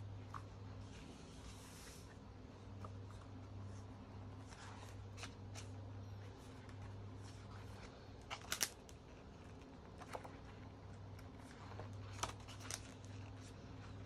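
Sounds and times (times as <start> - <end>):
faint low hum: 0.0 - 14.0
magazine pages rustling: 0.2 - 14.0.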